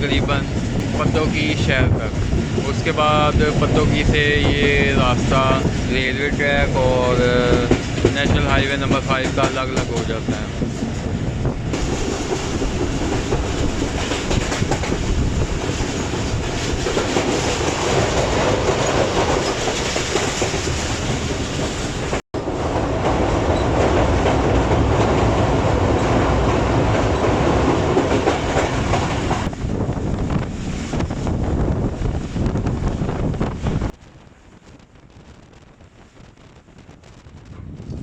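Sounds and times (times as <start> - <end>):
train wheels rumbling on rails: 0.0 - 38.0
clickety-clack of rail joints: 0.2 - 31.3.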